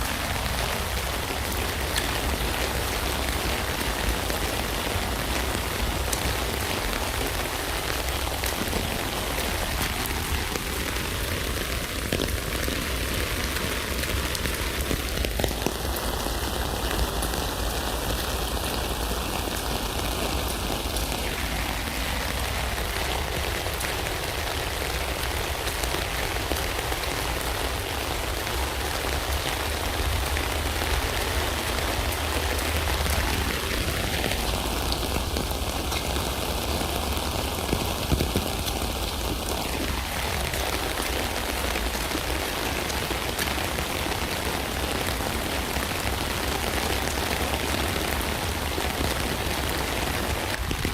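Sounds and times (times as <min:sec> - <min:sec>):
rain hissing on a tent: 0:00.0 - 0:50.9
raindrops ticking on fabric: 0:00.0 - 0:50.9.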